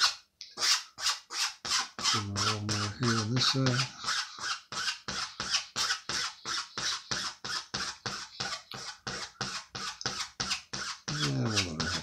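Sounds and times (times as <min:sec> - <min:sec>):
pencil scratching on paper: 0:00.0 - 0:12.0.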